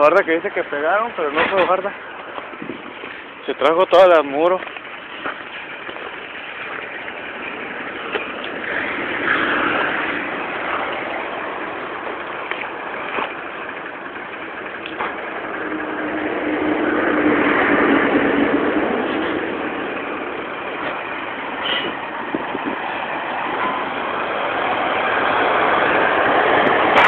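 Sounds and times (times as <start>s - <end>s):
highway traffic passing: 0.0s - 27.0s
vehicle engine hum: 0.0s - 27.0s.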